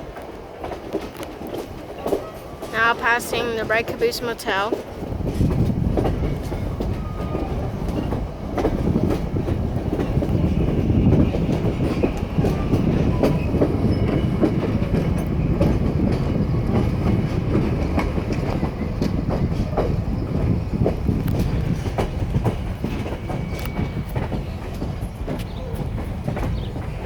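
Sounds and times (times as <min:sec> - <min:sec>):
train rumble: 0:00.0 - 0:27.0
wheels clacking over rail joints: 0:00.0 - 0:27.0.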